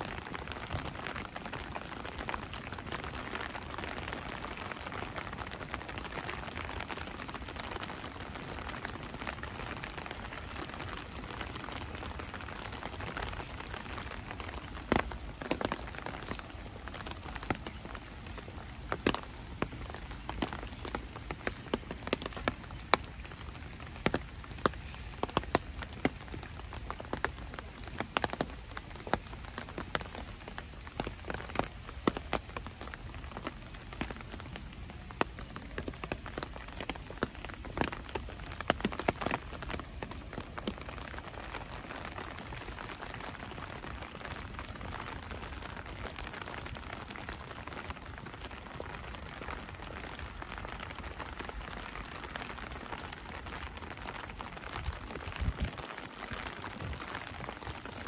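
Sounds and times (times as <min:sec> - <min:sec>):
rain falling on ground: 0:00.0 - 0:58.0.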